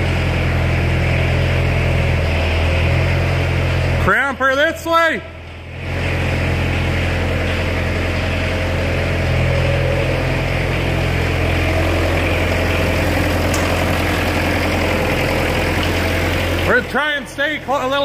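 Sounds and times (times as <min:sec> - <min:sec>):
crop sprayer engine humming: 0:00.0 - 0:18.0.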